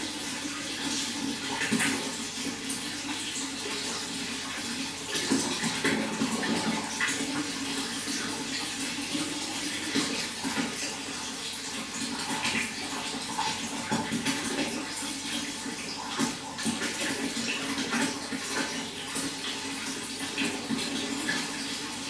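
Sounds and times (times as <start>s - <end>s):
running water: 0.0s - 22.0s
water splashes and gurgles: 0.0s - 22.0s.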